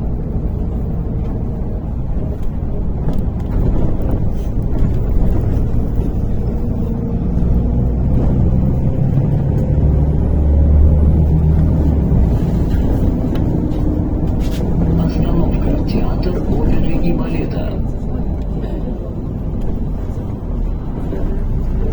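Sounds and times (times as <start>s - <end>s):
bus engine drone from inside: 0.0s - 21.9s.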